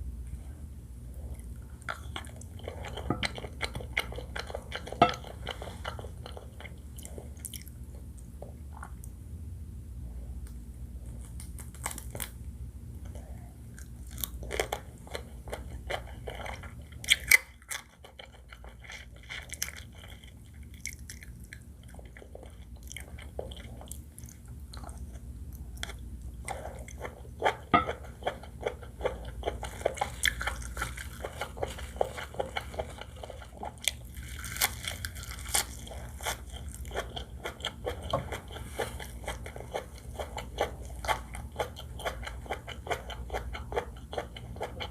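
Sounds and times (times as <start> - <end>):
crunching and chewing food: 1.1 - 9.2, 10.1 - 44.9.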